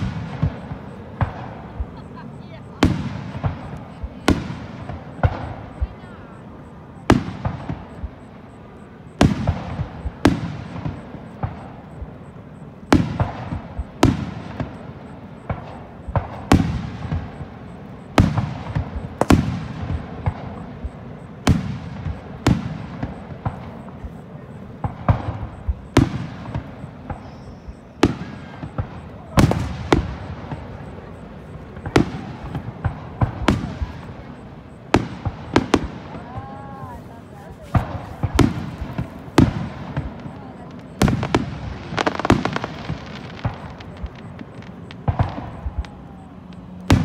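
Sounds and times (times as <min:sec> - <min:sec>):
firework shells booming: 0:00.0 - 0:47.0.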